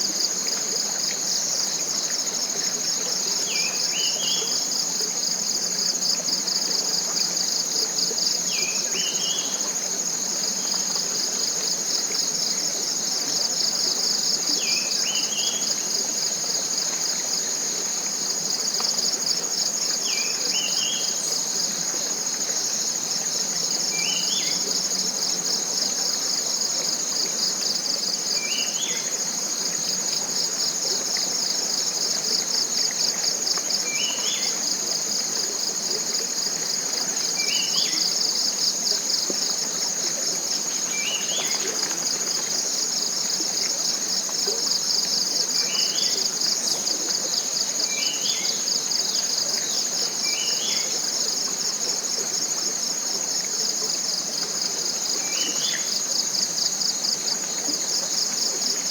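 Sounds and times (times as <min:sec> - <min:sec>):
forest insects trilling: 0:00.0 - 0:58.9.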